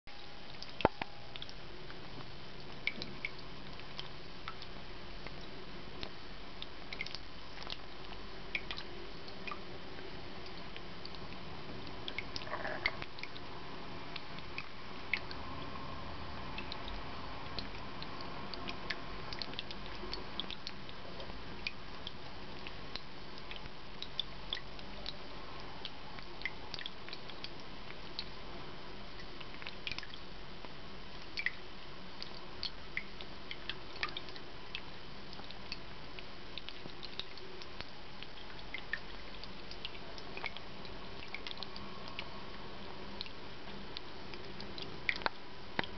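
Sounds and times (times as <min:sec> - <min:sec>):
water drips and clicks: 0:00.1 - 0:13.5, 0:14.1 - 0:28.4, 0:29.0 - 0:45.9
water fountain trickling: 0:00.1 - 0:45.9.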